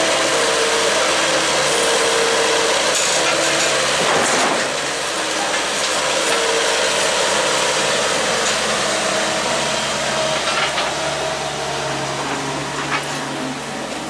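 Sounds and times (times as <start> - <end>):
heavy equipment engine running: 0.0 - 14.0.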